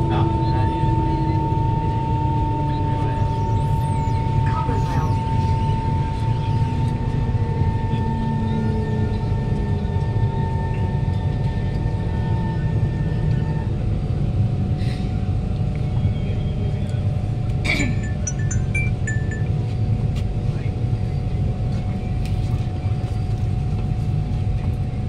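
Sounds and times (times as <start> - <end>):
low rumble of train car: 0.0 - 25.0.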